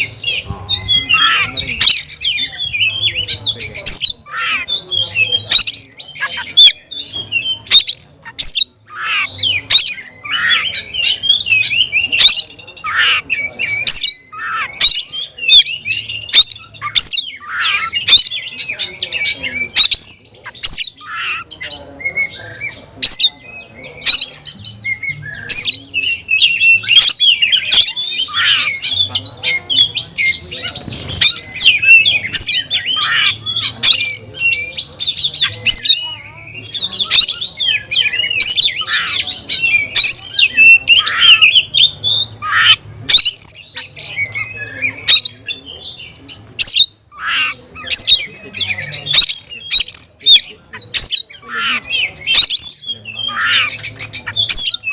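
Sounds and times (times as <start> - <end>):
bird singing whistles and chirps: 0.0 - 54.9
bird squawking: 0.0 - 54.9.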